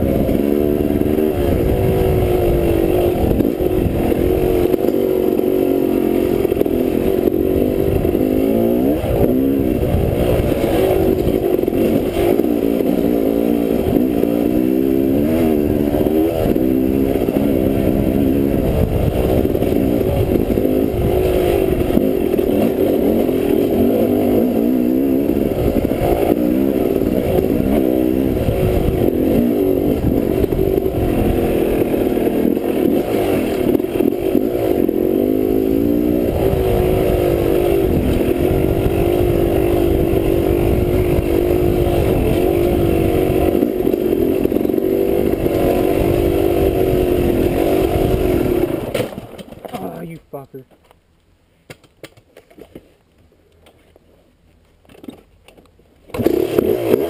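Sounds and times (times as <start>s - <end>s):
dirt bike engine revving: 0.0s - 50.5s, 56.1s - 57.0s.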